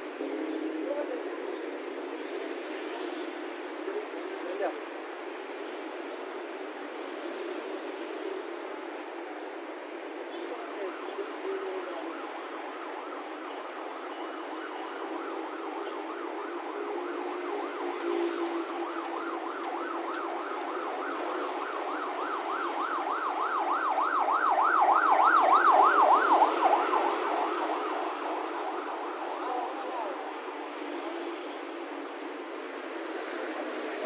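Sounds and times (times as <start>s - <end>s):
city traffic noise: 0.0s - 34.0s
emergency vehicle siren yelping: 6.4s - 34.0s.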